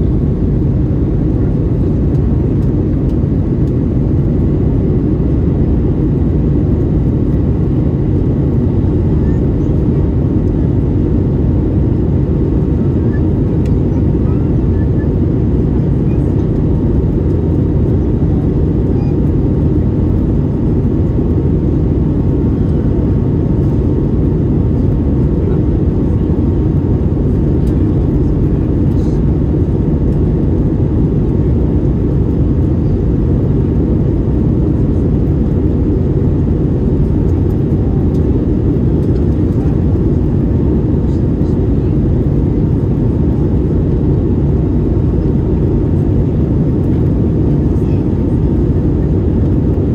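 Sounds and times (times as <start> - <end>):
aircraft cabin engine drone: 0.0 - 49.9
faint steady whine: 0.0 - 49.9.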